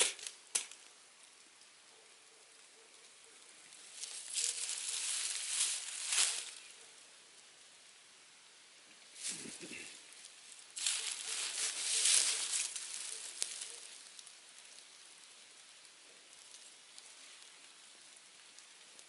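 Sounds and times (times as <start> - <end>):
campfire hissing: 0.0 - 19.0
fire crackles: 0.0 - 19.0.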